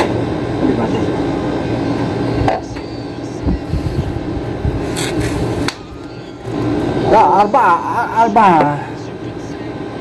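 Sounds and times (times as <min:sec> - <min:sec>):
compressor humming: 0:00.0 - 0:10.0.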